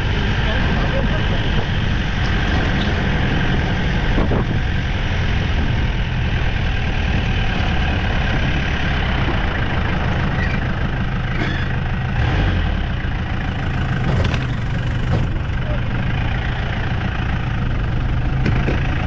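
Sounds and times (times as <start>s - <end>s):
pickup engine rumbling: 0.0s - 19.0s.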